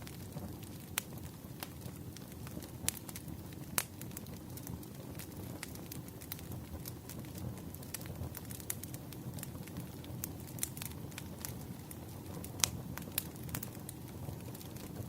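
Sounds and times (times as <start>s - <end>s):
campfire flame rushing: 0.0s - 15.0s
fire crackles and pops: 0.0s - 15.0s.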